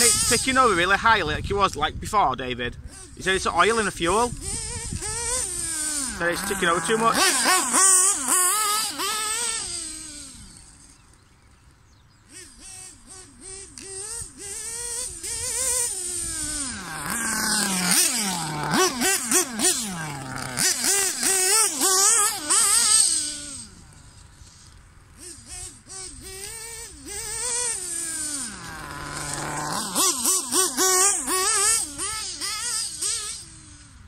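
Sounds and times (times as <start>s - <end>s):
model car engine revving: 0.0s - 1.8s, 2.4s - 34.0s.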